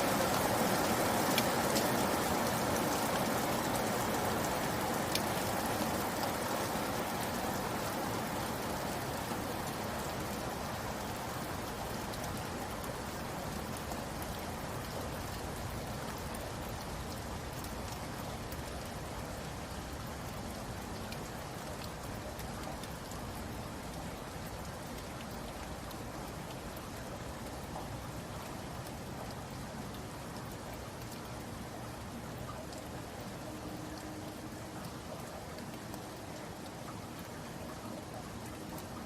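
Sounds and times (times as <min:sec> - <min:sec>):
rain patter: 0:00.0 - 0:39.0.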